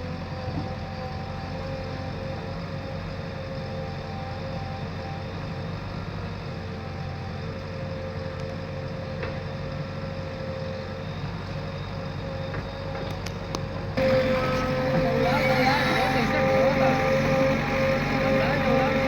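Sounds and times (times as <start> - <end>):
heavy vehicle engine humming: 0.0 - 19.0.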